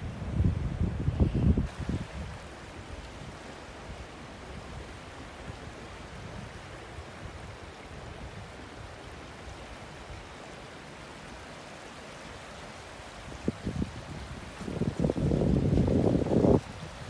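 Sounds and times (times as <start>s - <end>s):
small waves lapping on shore: 1.7s - 17.0s.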